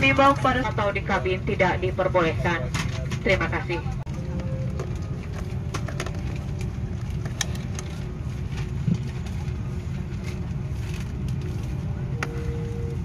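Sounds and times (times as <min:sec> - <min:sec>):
airplane cabin low rumble: 0:00.0 - 0:13.0.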